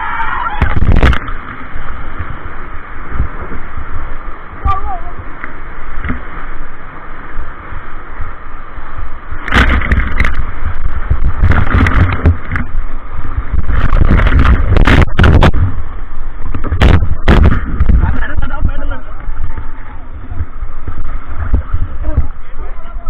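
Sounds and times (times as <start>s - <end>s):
waves splashing on microphone: 0.0s - 23.0s
whitewater rushing: 0.0s - 23.0s.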